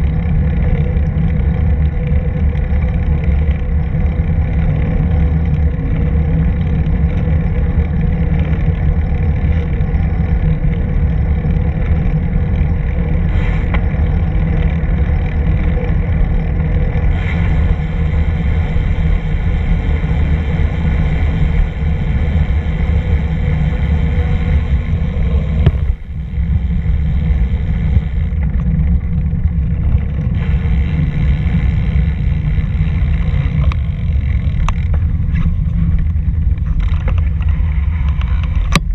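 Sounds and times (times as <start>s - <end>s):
bicycle tyre noise: 0.0s - 38.9s
wind buffeting microphone: 0.0s - 38.9s.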